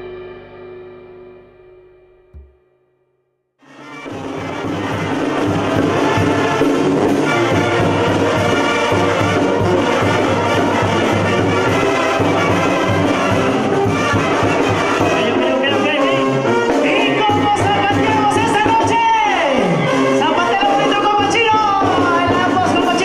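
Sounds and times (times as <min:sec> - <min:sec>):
brass band playing: 0:03.6 - 0:23.0.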